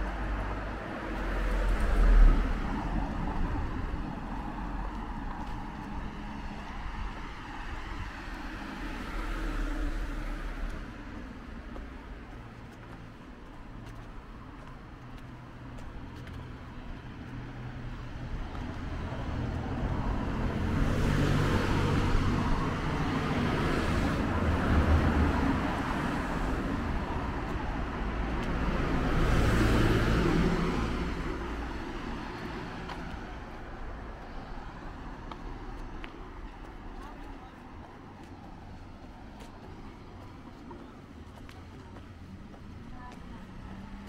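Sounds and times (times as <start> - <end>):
vehicles passing: 0.0 - 44.0.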